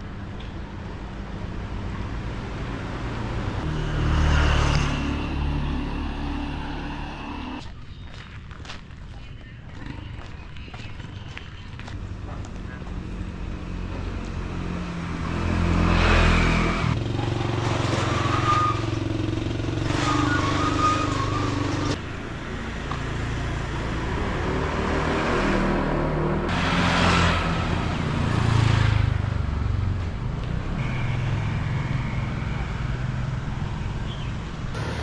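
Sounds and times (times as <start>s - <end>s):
road traffic passing: 0.0s - 7.8s, 9.4s - 35.0s.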